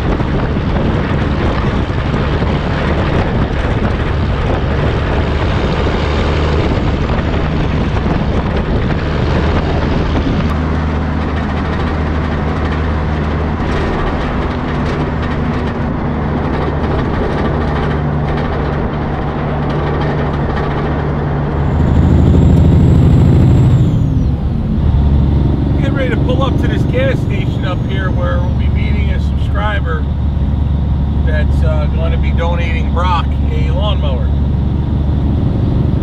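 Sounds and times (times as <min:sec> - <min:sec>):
truck diesel engine drone: 0:00.0 - 0:36.0
wind and road noise: 0:00.0 - 0:36.0.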